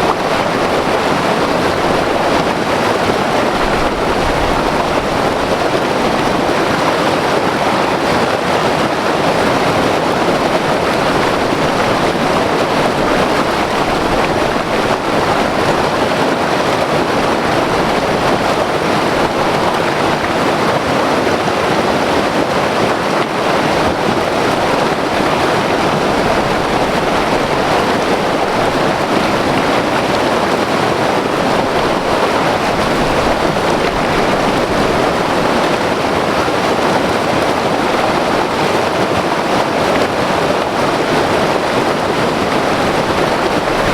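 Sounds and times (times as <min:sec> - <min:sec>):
river rushing over rocks: 0:00.0 - 0:43.9.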